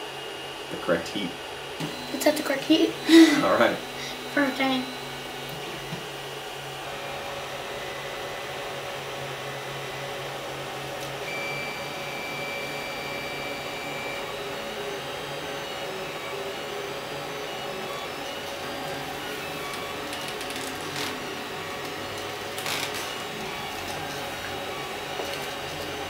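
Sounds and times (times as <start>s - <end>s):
cooling fans whirring: 0.0s - 26.0s
stepper motors whining: 1.7s - 26.0s.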